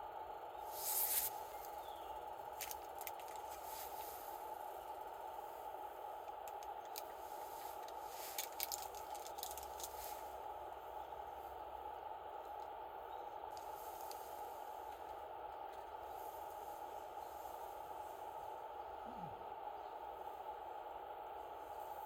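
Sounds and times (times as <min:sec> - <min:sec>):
wood campfire crackling: 0:00.6 - 0:18.3.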